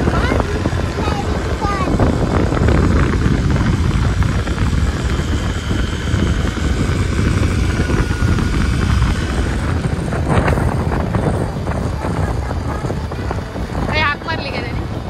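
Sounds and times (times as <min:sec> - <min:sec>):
vehicle rumble: 0:00.0 - 0:15.0
wind buffeting microphone: 0:00.0 - 0:15.0.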